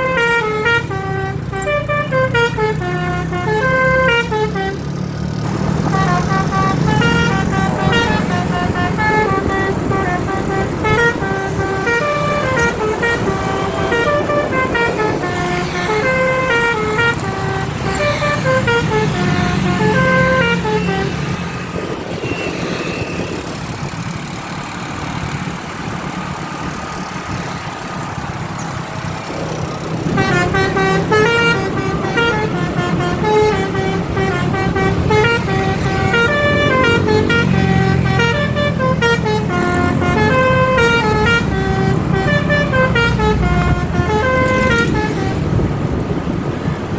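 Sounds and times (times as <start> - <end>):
musical bus horn melody: 0.0 - 23.4, 29.9 - 46.0.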